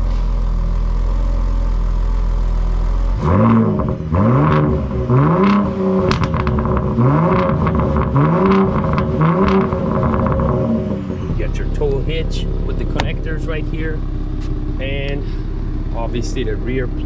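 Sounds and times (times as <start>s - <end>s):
car exhaust idling and revving: 0.0s - 17.0s.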